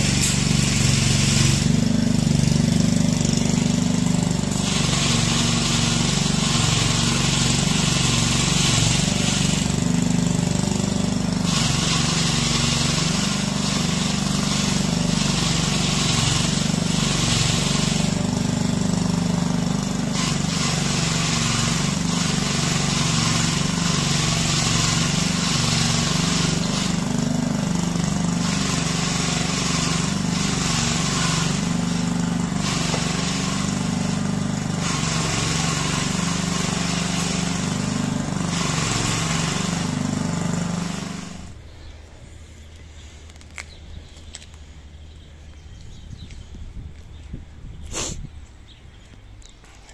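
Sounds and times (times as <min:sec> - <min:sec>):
small engine running: 0:00.0 - 0:41.6
wire brush scraping paving stones: 0:00.0 - 0:41.6, 0:47.9 - 0:48.3.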